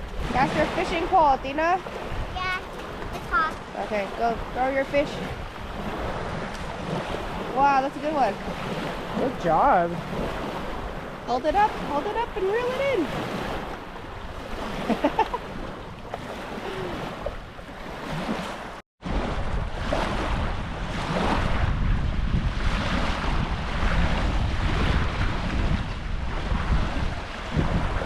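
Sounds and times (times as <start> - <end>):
small waves lapping: 0.0 - 28.0
wind buffeting microphone: 0.0 - 28.0.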